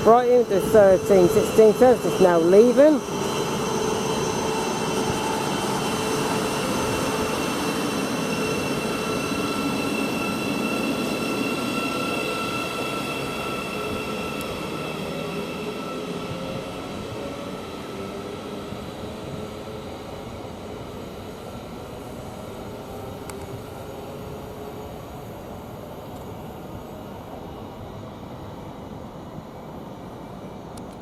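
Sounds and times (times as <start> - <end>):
electric train pulling out: 0.0 - 31.0.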